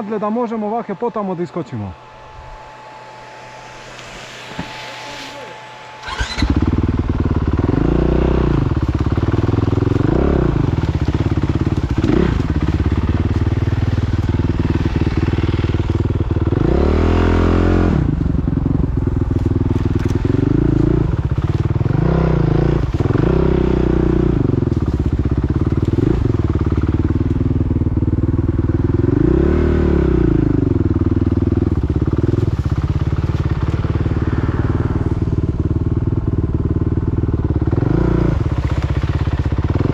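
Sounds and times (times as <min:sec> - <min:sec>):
motorcycle engine revving: 0:01.9 - 0:39.9.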